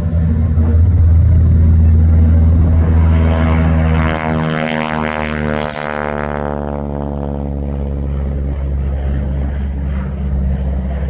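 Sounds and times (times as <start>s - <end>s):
propeller plane passing overhead: 0.0s - 11.0s.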